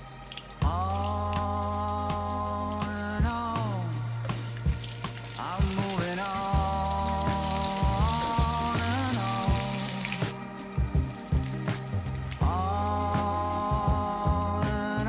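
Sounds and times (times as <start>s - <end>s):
food sizzling in oil: 0.0s - 14.9s
instrumental background music: 0.0s - 15.0s.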